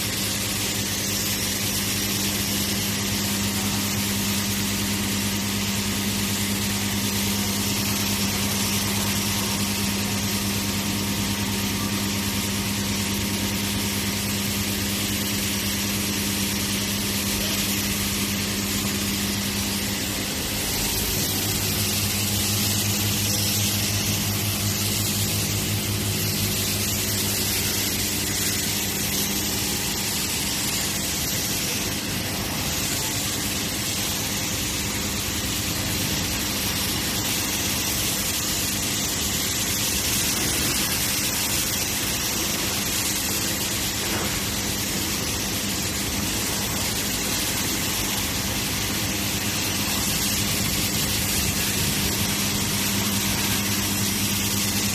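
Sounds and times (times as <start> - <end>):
pressure washer motor hum: 0.0 - 54.9
water spraying hiss: 0.0 - 54.9.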